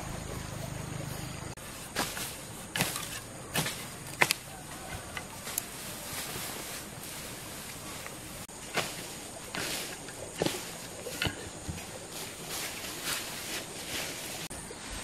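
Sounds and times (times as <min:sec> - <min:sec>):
grass rustling: 0:00.0 - 0:15.0.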